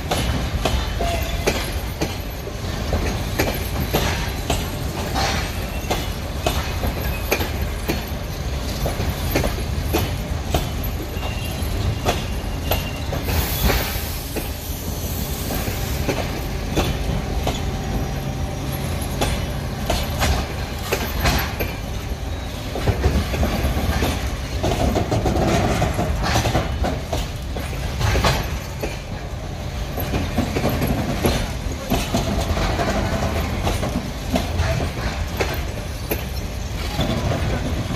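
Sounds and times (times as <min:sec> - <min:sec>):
train rumble: 0:00.0 - 0:37.9
train wheels clicking over rail joints: 0:00.0 - 0:37.9.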